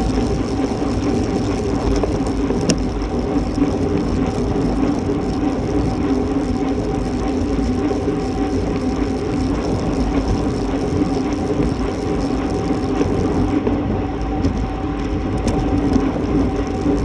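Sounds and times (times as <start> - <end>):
tyres whirring on asphalt: 0.0 - 17.0
wind rushing over microphone: 0.0 - 17.0.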